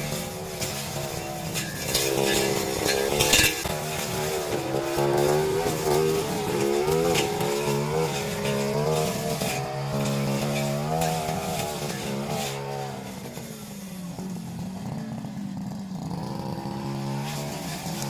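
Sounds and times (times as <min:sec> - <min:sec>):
brush cutter engine running: 0:00.0 - 0:18.0.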